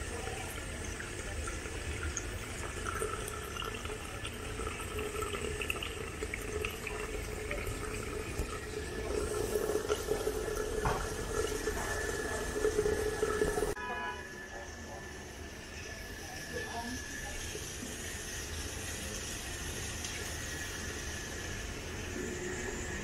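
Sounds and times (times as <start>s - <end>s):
water running: 0.0s - 13.8s, 14.4s - 23.0s.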